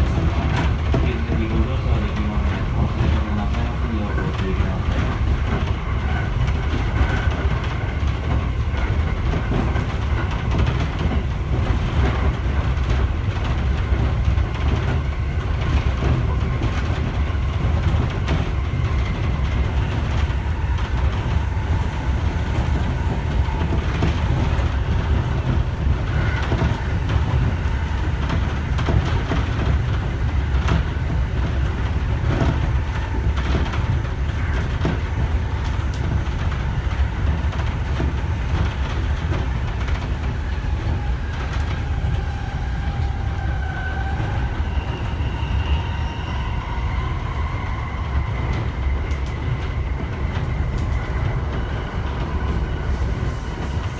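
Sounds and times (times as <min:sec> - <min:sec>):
train interior rumble: 0:00.0 - 0:53.9.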